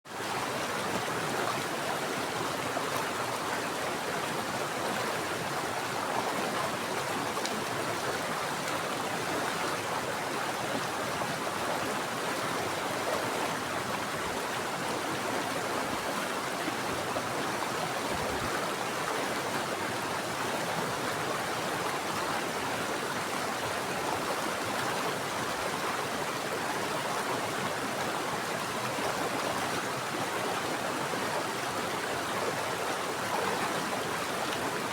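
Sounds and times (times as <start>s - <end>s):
mountain stream flowing: 0.1s - 34.9s.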